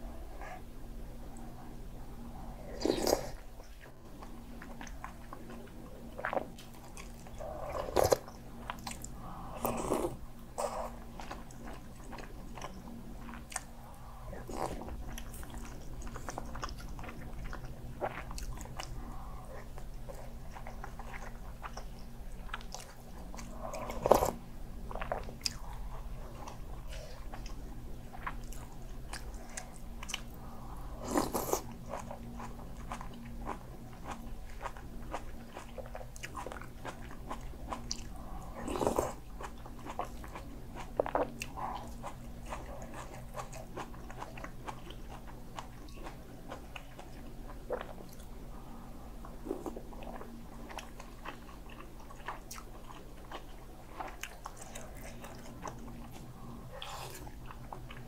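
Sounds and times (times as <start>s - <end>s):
wet chewing and crunching: 2.7s - 58.0s.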